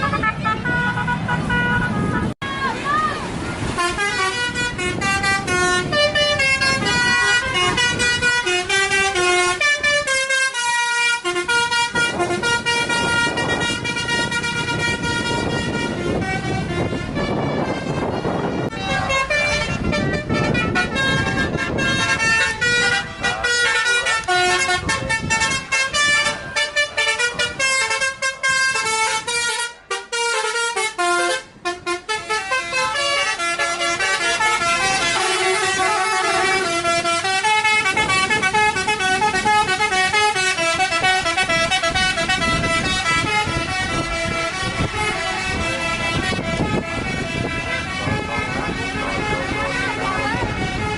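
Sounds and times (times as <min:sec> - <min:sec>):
musical bus horn tune: 0:00.0 - 0:50.9.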